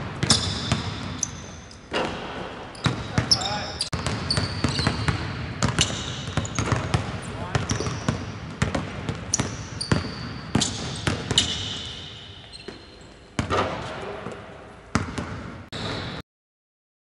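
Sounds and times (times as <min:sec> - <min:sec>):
basketballs bouncing on hardwood: 0:00.0 - 0:11.8, 0:13.4 - 0:15.5
sneaker squeaks: 0:00.2 - 0:16.2.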